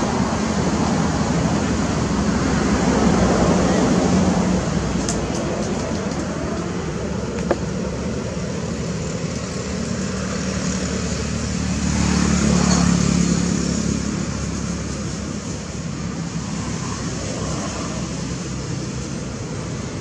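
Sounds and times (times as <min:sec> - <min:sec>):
road traffic engine noise: 0:00.0 - 0:20.0.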